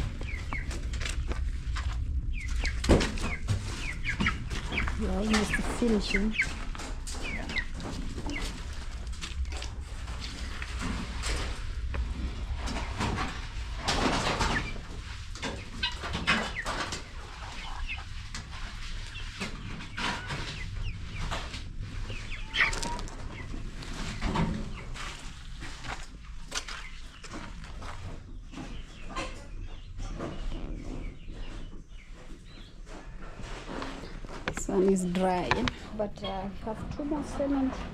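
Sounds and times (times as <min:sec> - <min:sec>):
chickens clucking: 0:00.0 - 0:37.9
knocks and scrapes: 0:00.0 - 0:37.9.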